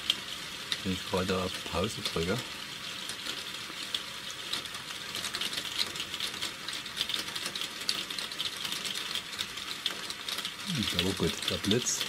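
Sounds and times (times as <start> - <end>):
rain dripping and pattering: 0.0 - 12.0.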